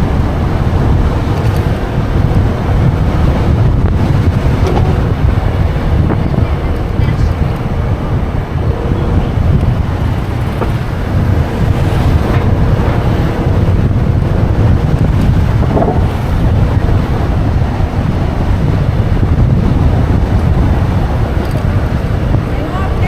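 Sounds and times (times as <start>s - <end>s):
motorbike running and road noise: 0.0s - 23.0s
wind buffeting microphone: 0.0s - 23.0s.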